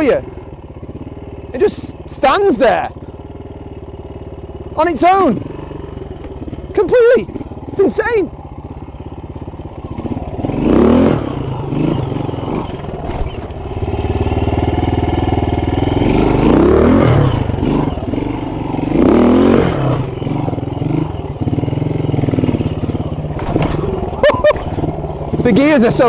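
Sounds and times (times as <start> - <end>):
motorcycle engine with throttle blips: 0.0 - 26.0.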